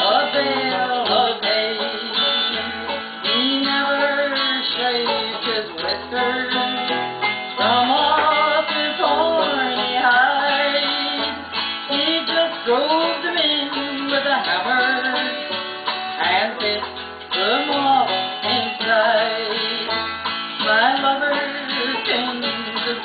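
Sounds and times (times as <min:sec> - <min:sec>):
person singing: 0:00.0 - 0:23.0
plucked acoustic guitar: 0:00.0 - 0:23.0.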